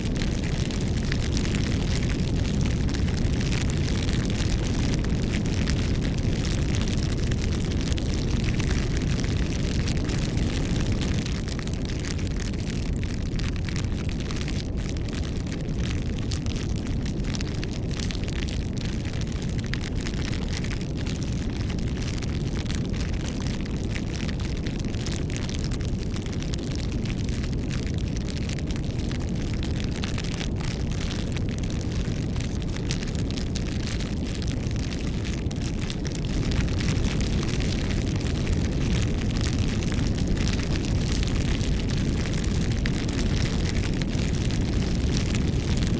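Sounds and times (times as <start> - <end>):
bonfire roaring and crackling: 0.0 - 45.9.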